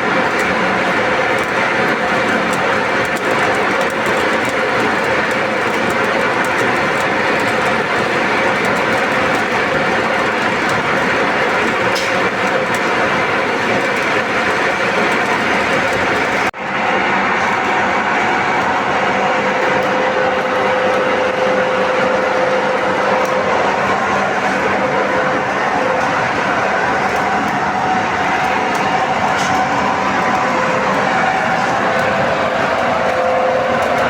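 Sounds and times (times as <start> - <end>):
metalworking noise with crackling: 0.0 - 34.0.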